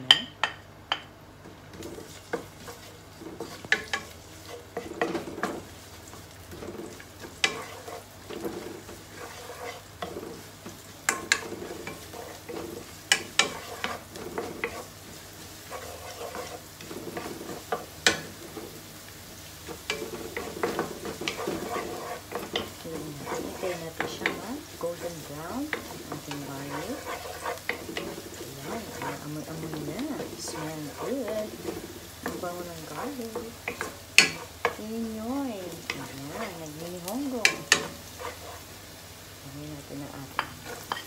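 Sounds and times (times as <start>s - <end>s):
spatula tapping pan: 0.1s - 1.1s, 1.7s - 18.8s, 19.6s - 38.6s
garlic sizzling in frying pan: 0.2s - 41.0s
wooden spatula scraping pan: 1.7s - 18.8s, 19.6s - 38.8s, 40.2s - 41.0s.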